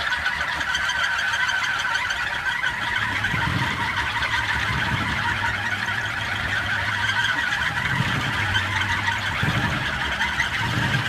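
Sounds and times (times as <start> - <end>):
wooden propeller droning hum: 0.0 - 11.0.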